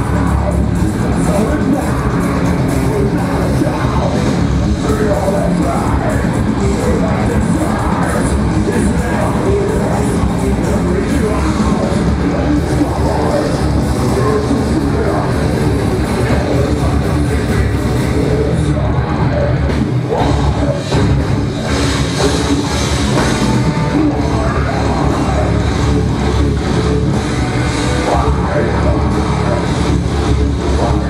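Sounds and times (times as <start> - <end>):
bass guitar: 0.0 - 31.0
distorted electric guitars: 0.0 - 31.0
drums: 0.0 - 31.0.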